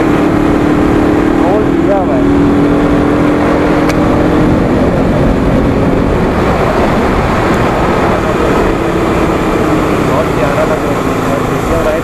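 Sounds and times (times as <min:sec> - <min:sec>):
motorcycle engine running: 0:00.0 - 0:12.0
wind rush over microphone: 0:00.0 - 0:12.0.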